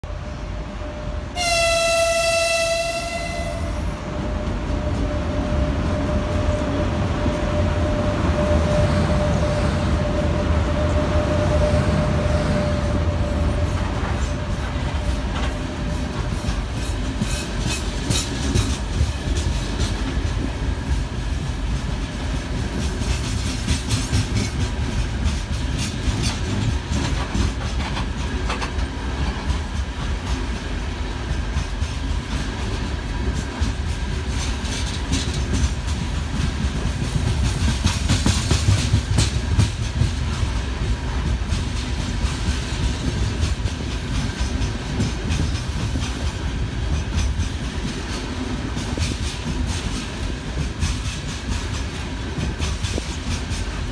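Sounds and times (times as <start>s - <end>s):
train wheels rumbling on rail: 0.0s - 53.9s
electric locomotive whine: 0.1s - 53.9s
clickety-clack over rail joints: 1.4s - 53.9s.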